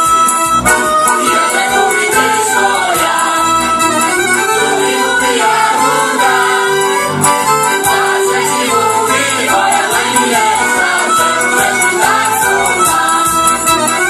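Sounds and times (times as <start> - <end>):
accordion: 0.0 - 14.0
group singing folk song: 0.6 - 14.0.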